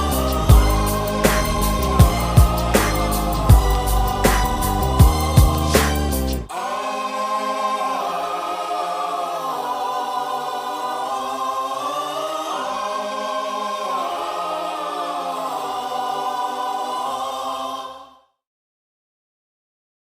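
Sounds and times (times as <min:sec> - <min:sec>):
choir-like background music: 0:00.0 - 0:18.4.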